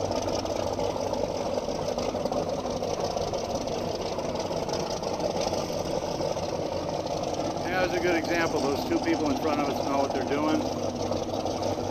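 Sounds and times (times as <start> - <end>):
boat motors idling: 0.0 - 11.9.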